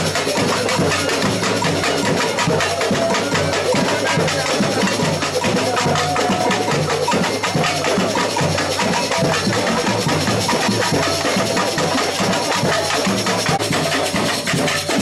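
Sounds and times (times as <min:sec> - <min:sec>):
samba drum band: 0:00.0 - 0:15.0.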